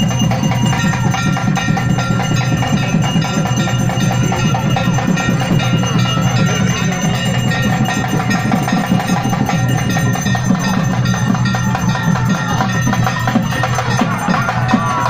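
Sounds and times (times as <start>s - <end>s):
fast folk drumming: 0.0s - 15.0s.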